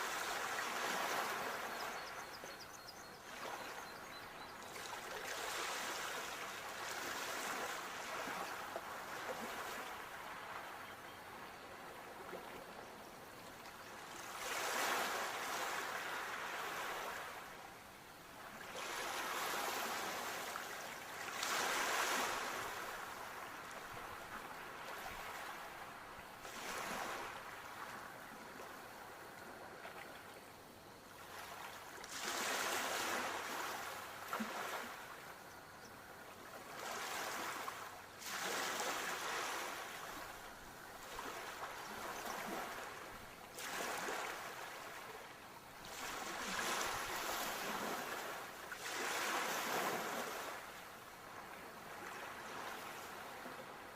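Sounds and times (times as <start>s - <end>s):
sea waves breaking on shore: 0.0s - 2.0s, 4.7s - 10.8s, 13.5s - 17.6s, 18.3s - 29.2s, 31.2s - 35.3s, 36.5s - 53.9s.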